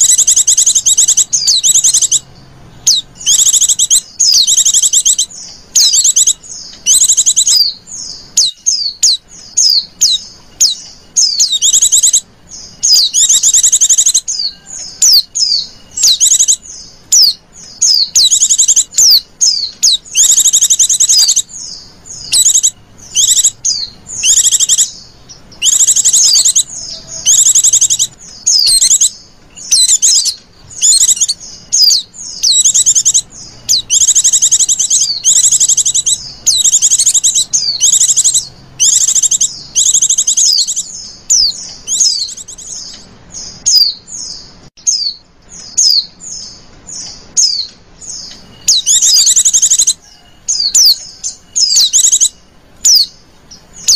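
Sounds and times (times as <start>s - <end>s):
birds warbling high-pitched: 0.0s - 53.9s
soft bird chirps: 0.0s - 53.9s.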